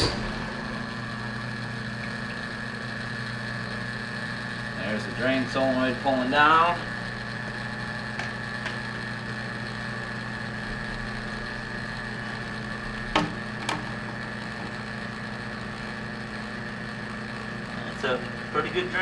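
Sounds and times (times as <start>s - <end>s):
dishwasher pump draining water: 0.0s - 19.0s.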